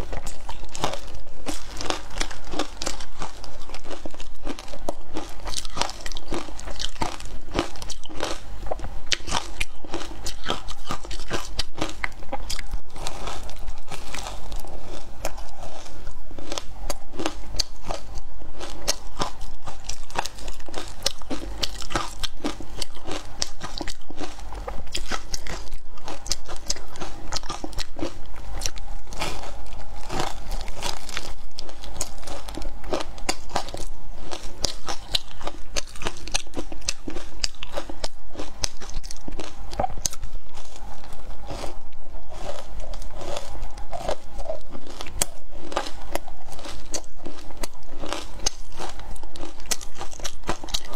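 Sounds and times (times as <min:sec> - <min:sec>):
ice crunching while chewed: 0:00.0 - 0:50.9.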